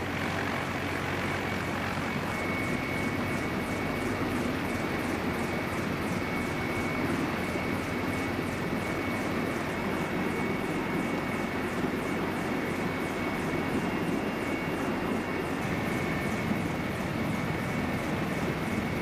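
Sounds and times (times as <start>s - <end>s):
aircraft engine rumble and whine: 0.0s - 19.0s.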